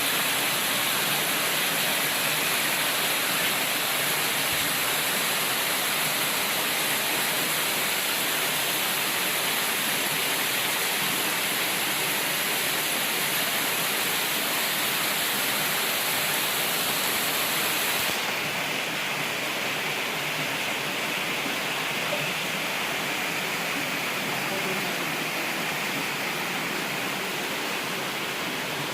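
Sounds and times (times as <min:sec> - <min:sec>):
fast-flowing mountain water: 0:00.0 - 0:28.9.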